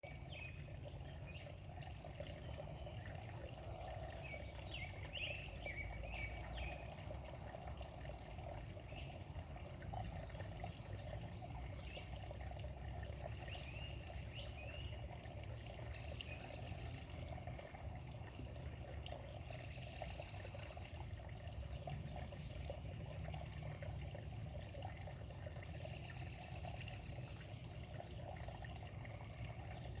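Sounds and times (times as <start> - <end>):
running water trickling: 0.0 - 30.0.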